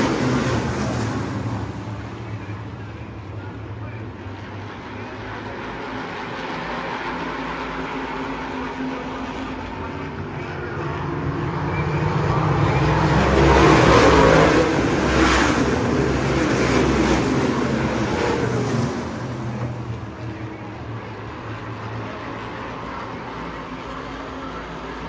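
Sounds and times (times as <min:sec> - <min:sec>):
race car engines accelerating: 0:00.0 - 0:25.0.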